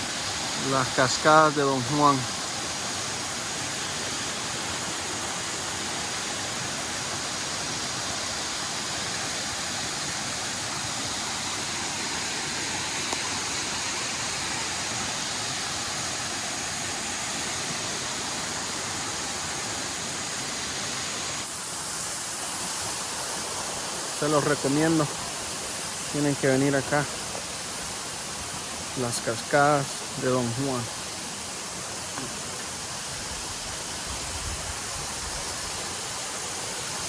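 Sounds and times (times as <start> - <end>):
bright hiss: 0.0 - 37.0
waterfall rushing: 0.0 - 37.0.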